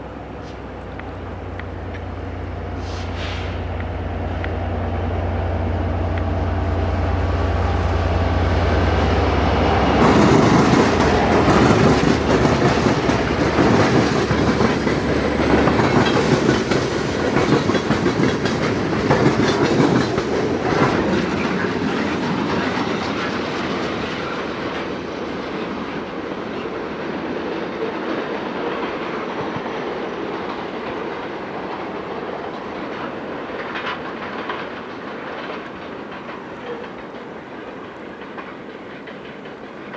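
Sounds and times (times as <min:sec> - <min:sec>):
train wheels clicking over rail joints: 0:06.0 - 0:39.9.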